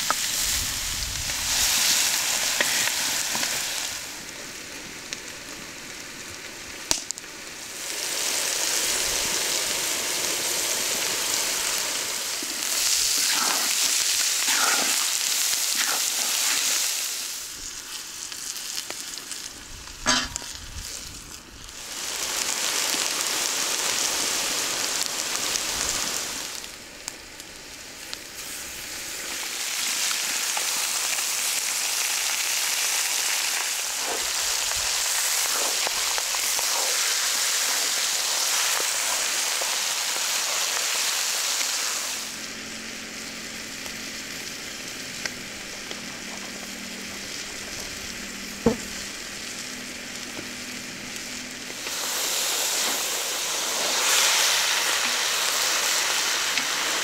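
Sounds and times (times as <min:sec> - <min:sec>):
meat sizzling in a pan: 0:00.0 - 0:57.0.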